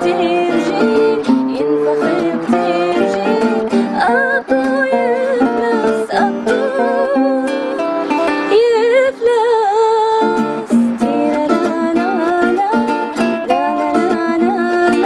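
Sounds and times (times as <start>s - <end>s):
person singing wavering notes: 0.0s - 15.0s
plucked string accompaniment: 0.0s - 15.0s.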